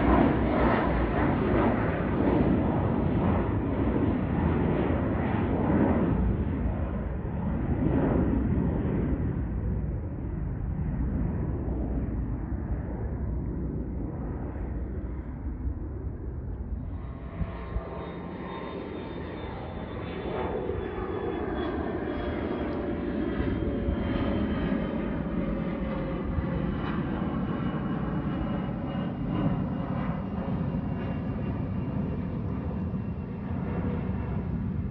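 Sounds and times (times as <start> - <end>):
airplane engines rumbling: 0.0 - 34.9.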